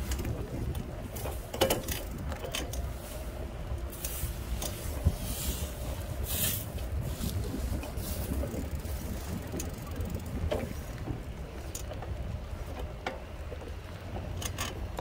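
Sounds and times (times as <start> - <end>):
low rumble of motor and wheels: 0.0 - 15.0.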